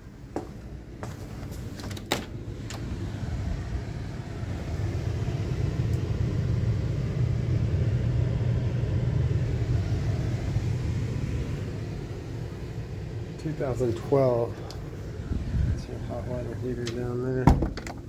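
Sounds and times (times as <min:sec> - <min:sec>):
blower fan droning: 0:00.0 - 0:18.0.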